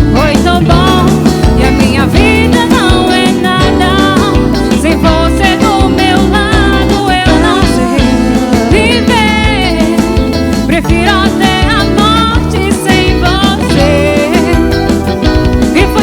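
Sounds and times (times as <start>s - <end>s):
band playing pop song: 0.0s - 16.0s.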